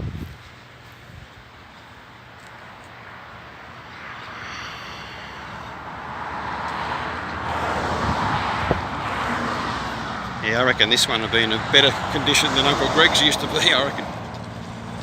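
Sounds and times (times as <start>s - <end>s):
road vehicle approaching: 0.0s - 15.0s.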